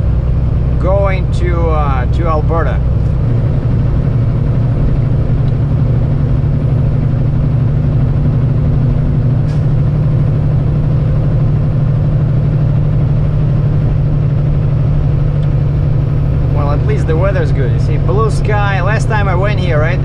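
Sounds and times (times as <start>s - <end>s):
diesel truck engine droning: 0.0s - 20.0s
road noise: 0.0s - 20.0s.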